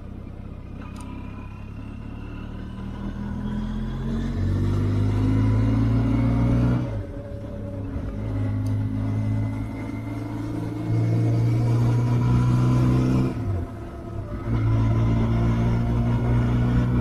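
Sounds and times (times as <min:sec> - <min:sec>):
motorcycle engine accelerating: 0:00.6 - 0:17.0.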